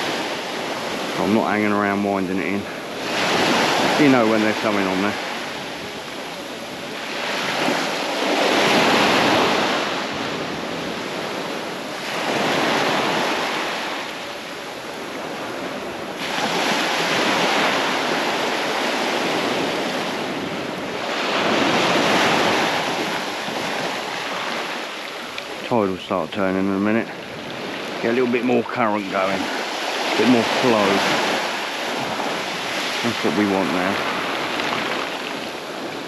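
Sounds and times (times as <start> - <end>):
waves washing up pebbly beach: 0.0 - 36.0.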